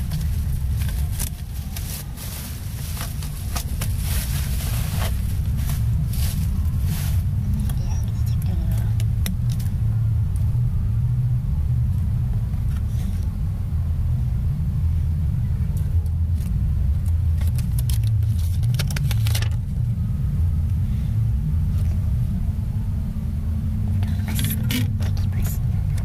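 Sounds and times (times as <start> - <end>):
loud low rumble: 0.0 - 26.0.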